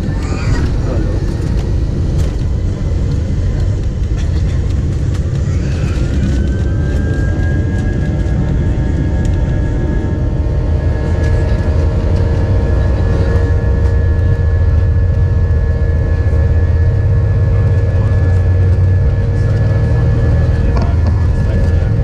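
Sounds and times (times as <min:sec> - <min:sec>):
jet engines rumbling and whining: 0:00.0 - 0:22.0.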